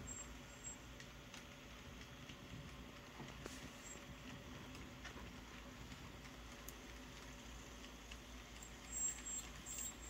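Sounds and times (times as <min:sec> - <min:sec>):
model train running on track: 0:00.0 - 0:10.0.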